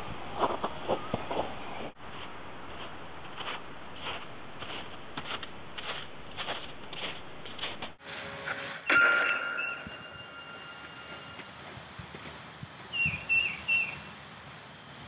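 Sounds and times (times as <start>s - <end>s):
footsteps crunching on snow: 1.3s - 15.0s.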